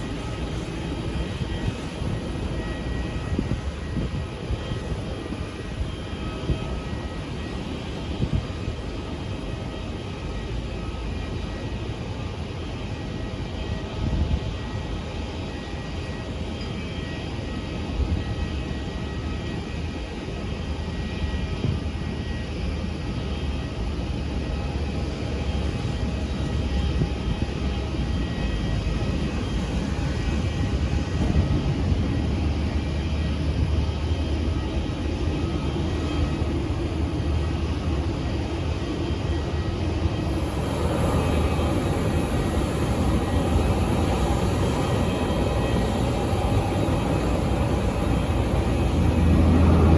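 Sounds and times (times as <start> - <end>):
faint high whine: 0.0 - 49.9
jet engines rumbling: 0.0 - 49.9.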